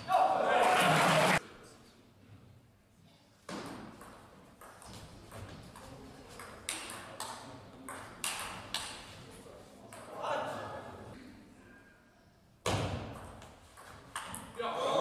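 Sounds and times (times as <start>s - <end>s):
murmur in large hall: 0.0s - 15.0s.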